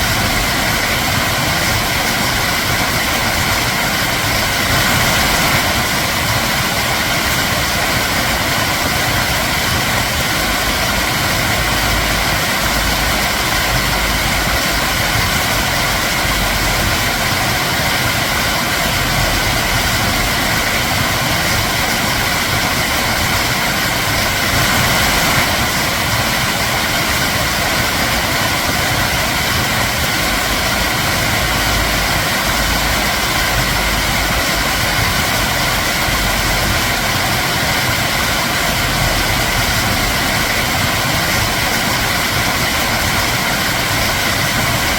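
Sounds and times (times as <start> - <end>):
water rushing: 0.0 - 44.9.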